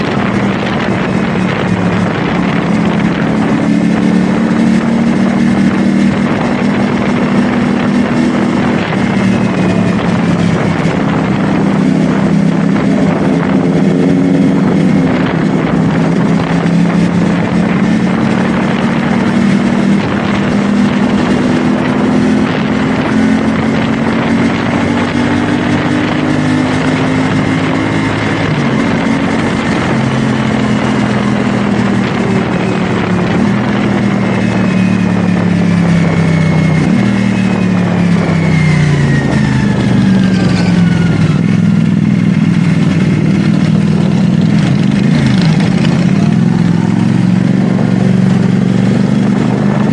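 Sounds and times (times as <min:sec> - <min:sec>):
motorcycle engine: 0:00.0 - 0:49.9
wind noise on microphone: 0:00.0 - 0:49.9.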